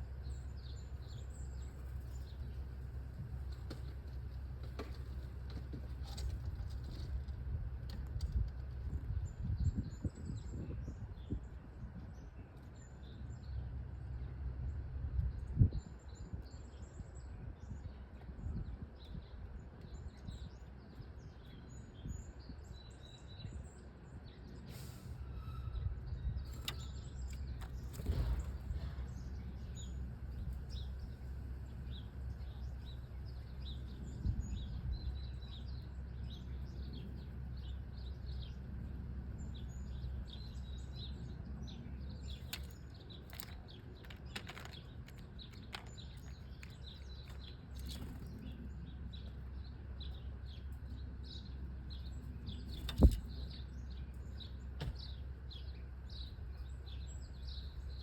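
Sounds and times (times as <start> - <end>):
low outdoor rumble: 0.0 - 58.0
small birds twittering: 0.0 - 58.0.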